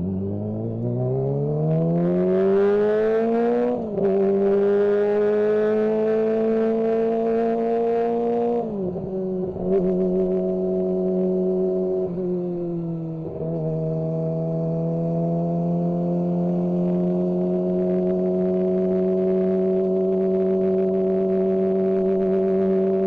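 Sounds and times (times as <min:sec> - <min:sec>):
motorcycle engine buzzing: 0:00.0 - 0:23.0.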